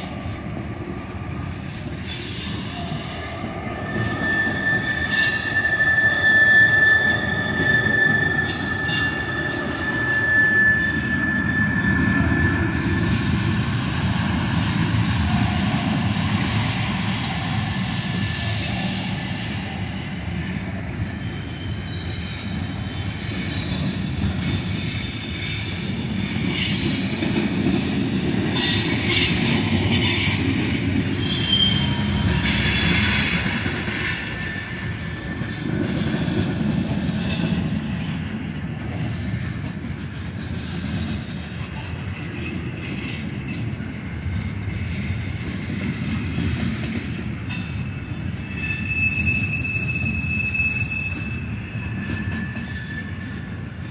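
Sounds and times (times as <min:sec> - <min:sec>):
train wheels rumbling on rail: 0:00.0 - 0:53.9
high-pitched wheel squeals: 0:00.9 - 0:39.2, 0:47.4 - 0:53.9.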